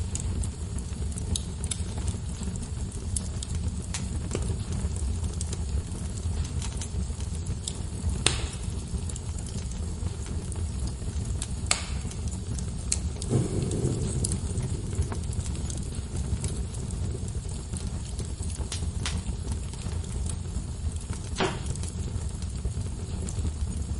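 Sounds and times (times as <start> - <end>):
fire crackling and popping: 0.0 - 23.9
fire rumbling: 0.0 - 23.9.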